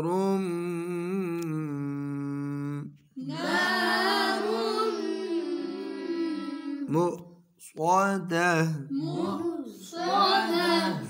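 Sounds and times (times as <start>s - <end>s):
person chanting recitation: 0.0s - 11.0s.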